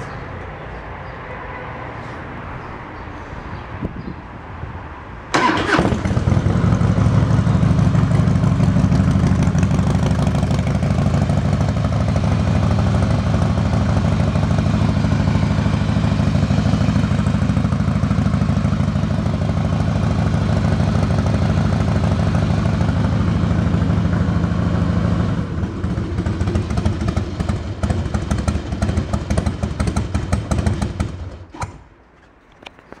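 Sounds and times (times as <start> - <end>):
motorcycle engine starting and idling: 5.3 - 33.0.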